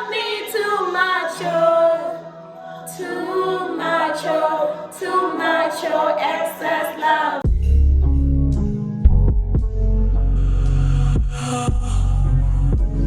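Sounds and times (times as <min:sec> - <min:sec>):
love song with sung vocals: 0:00.0 - 0:07.7, 0:10.1 - 0:13.0.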